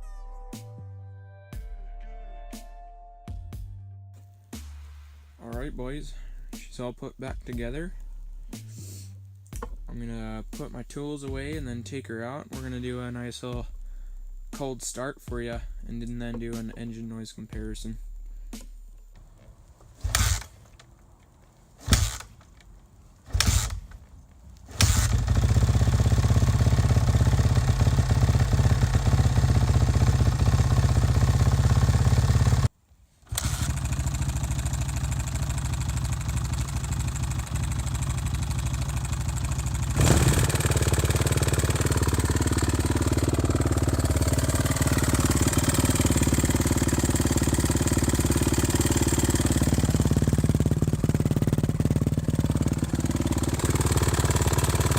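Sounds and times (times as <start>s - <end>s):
motorcycle engine starting and running: 5.5s - 54.9s.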